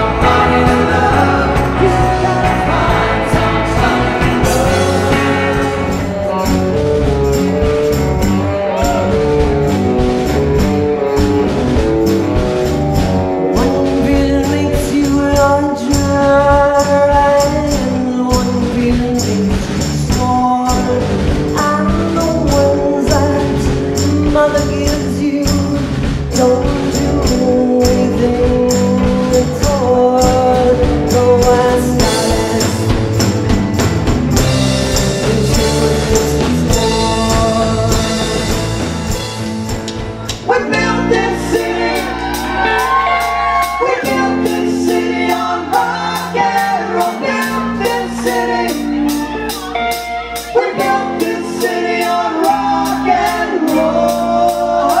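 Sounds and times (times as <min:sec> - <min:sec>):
man and woman singing: 0:00.0 - 0:06.5, 0:13.4 - 0:33.2, 0:34.9 - 0:38.8, 0:40.5 - 0:55.0
live rock band: 0:00.0 - 0:55.0.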